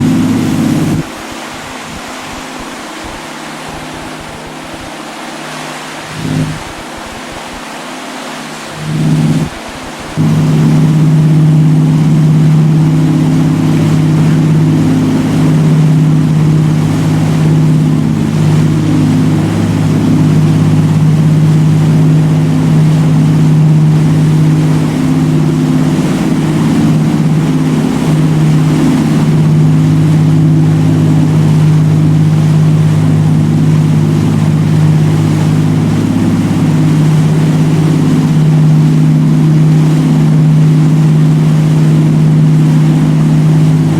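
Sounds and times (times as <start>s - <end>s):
hiss of water and wind: 0.0s - 43.9s
motorboat engine drone: 0.0s - 43.9s.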